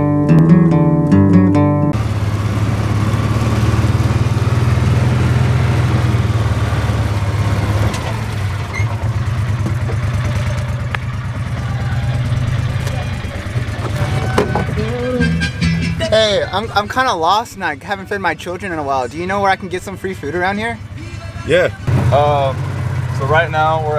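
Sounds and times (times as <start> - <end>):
vehicle engine idling: 1.9 - 23.9.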